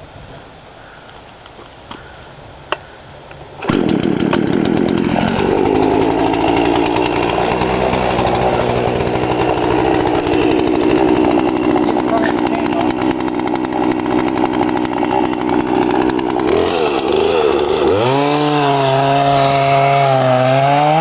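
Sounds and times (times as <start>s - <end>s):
chainsaw engine revving: 3.6s - 21.0s.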